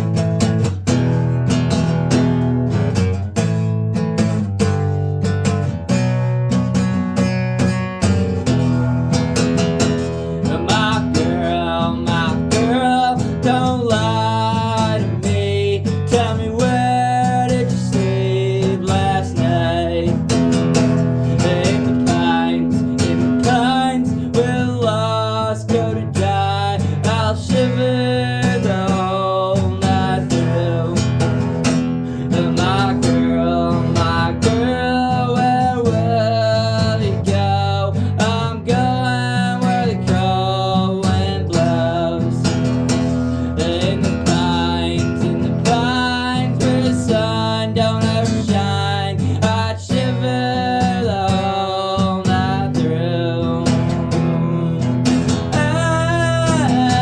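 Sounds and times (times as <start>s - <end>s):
acoustic guitar strumming: 0.0s - 57.0s
person singing: 10.1s - 57.0s.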